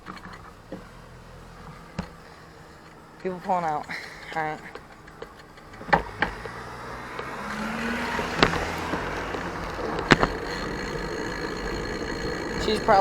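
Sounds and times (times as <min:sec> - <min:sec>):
car engine pulling out: 0:00.0 - 0:13.0.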